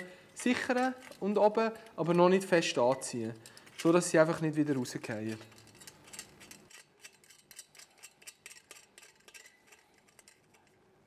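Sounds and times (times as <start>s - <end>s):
screws clicking into steel: 0.6s - 10.8s.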